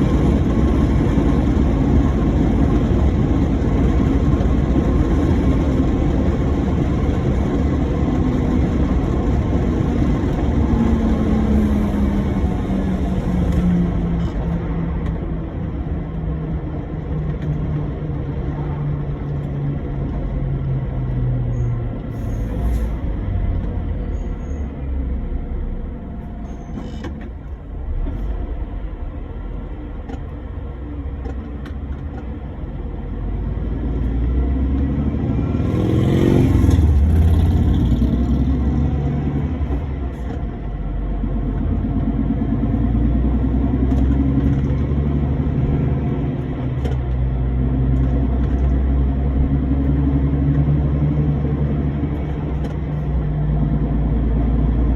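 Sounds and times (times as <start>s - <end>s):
road noise: 0.0s - 54.9s
truck engine drone: 0.0s - 54.9s.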